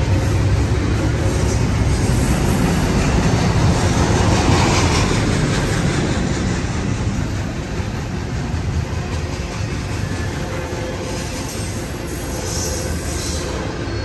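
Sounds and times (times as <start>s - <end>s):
train wheels rolling on rail: 0.0s - 14.0s.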